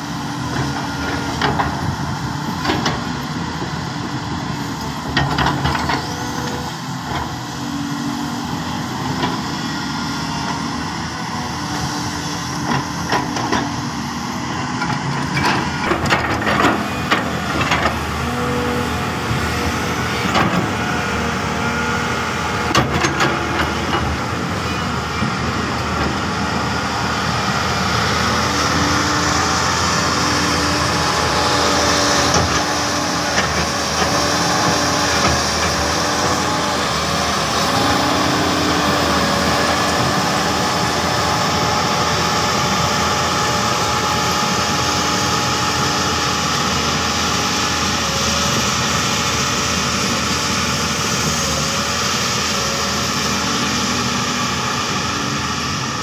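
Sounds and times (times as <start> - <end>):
excavator engine drone: 0.0 - 56.0.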